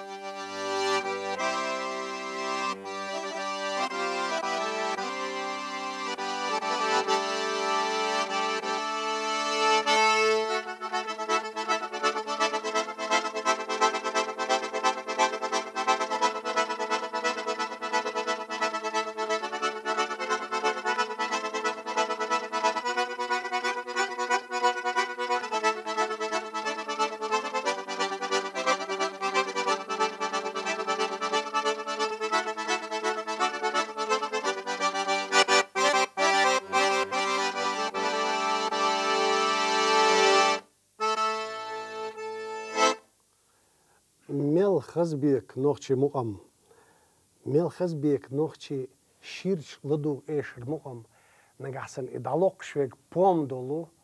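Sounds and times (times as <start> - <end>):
piano accordion melody: 0.0 - 43.1, 47.5 - 51.0.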